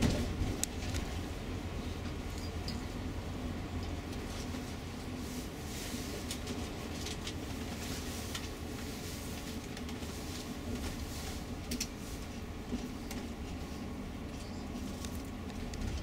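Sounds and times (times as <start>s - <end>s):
coach engine and road rumble: 0.0s - 16.0s.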